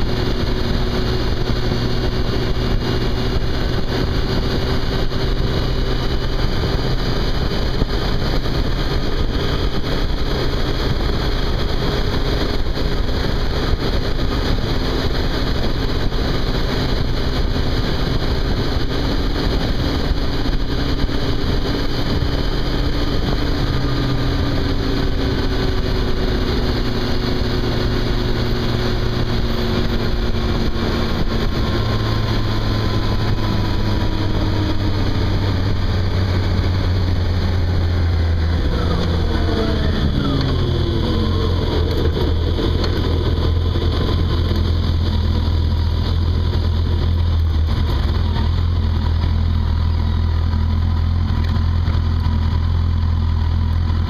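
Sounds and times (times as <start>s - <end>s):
wind noise: 0.0s - 53.1s
motorcycle engine running: 0.0s - 54.0s.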